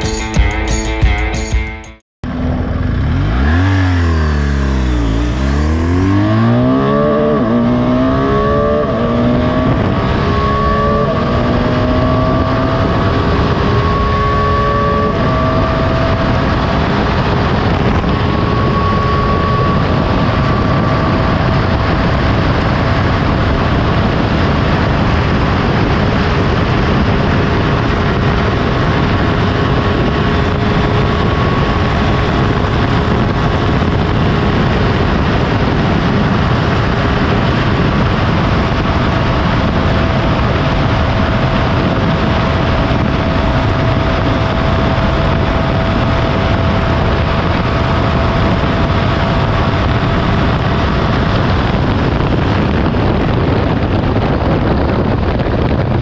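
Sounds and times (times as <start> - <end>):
motorcycle engine accelerating: 0.0 - 56.0
wind rush: 2.2 - 56.0.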